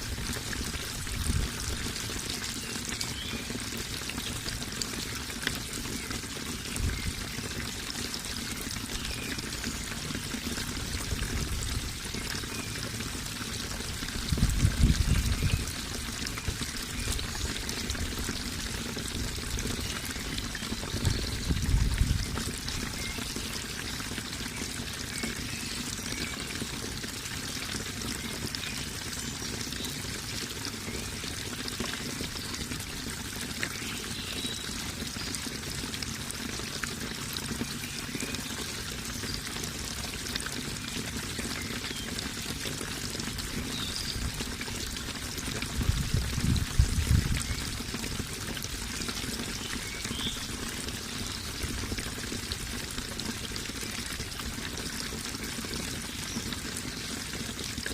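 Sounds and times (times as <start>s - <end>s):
water running and trickling: 0.0s - 57.9s.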